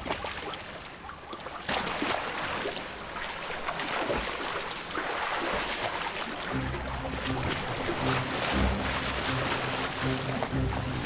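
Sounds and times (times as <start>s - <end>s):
animals splashing through river water: 0.0s - 11.0s.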